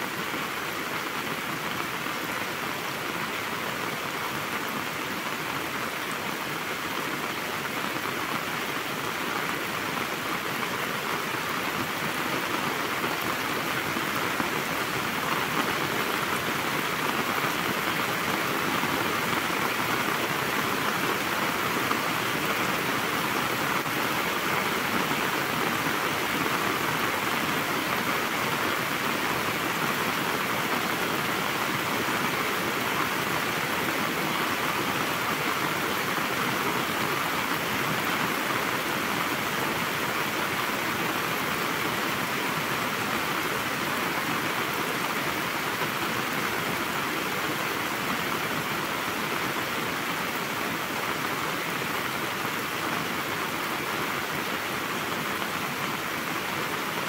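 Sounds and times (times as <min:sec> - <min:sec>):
heavy rain on gravel and leaves: 0:00.0 - 0:57.0.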